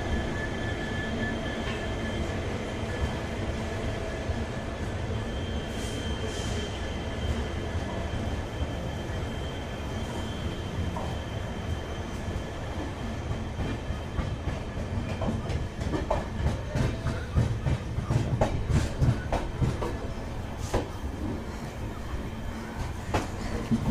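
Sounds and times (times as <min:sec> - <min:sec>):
train coach rumbling on rails: 0:00.0 - 0:23.9.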